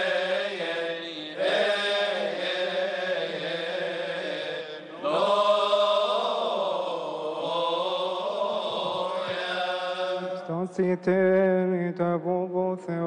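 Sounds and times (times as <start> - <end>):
male choir chanting a hymn: 0.0 - 13.0.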